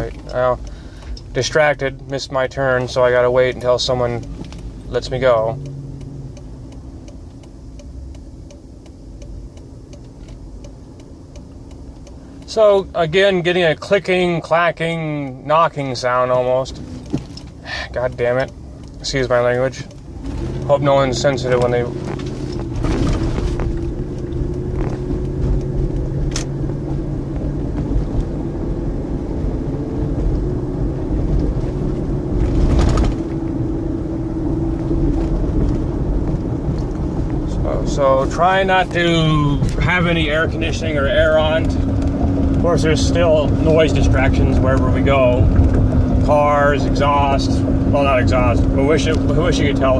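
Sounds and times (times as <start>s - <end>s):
car engine running: 0.0s - 49.9s
engine clicking: 0.0s - 49.9s
engine rush: 0.0s - 49.9s
turn signal ticking: 0.0s - 49.9s.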